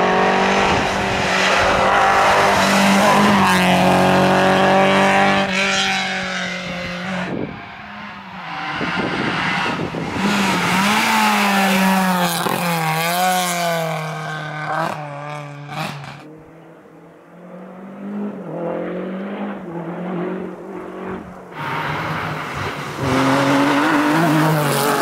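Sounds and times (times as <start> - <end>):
distant engine: 0.0 - 25.0
rally car engine passing: 0.0 - 25.0.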